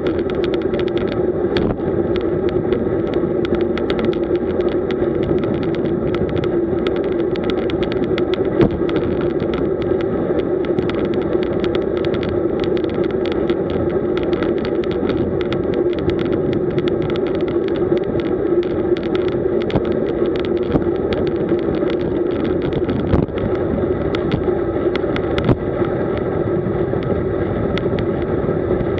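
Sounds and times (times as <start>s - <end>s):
camera rattling clicks: 0.0s - 25.6s
wind and road noise from bike: 0.0s - 28.9s.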